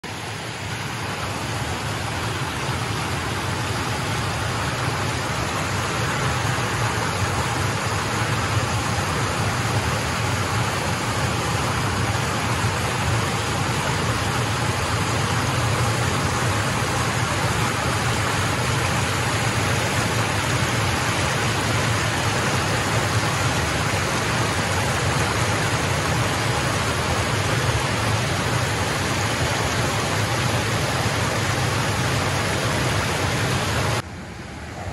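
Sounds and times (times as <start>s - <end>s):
water roaring over a weir: 0.0s - 34.9s.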